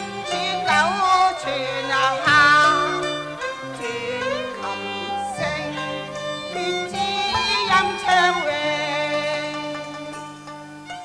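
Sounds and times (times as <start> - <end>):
bowed fiddle sliding melody: 0.0 - 11.0
opera ensemble music: 0.0 - 11.0.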